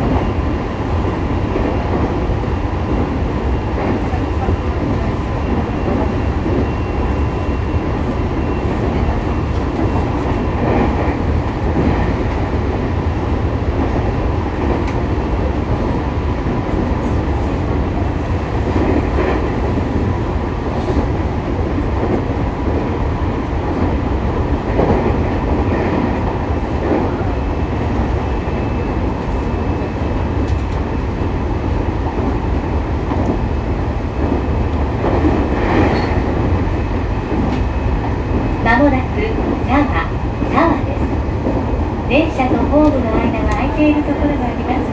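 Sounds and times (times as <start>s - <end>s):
rail clacks: 0.0s - 31.3s, 33.0s - 44.9s
train rolling rumble: 0.0s - 44.9s.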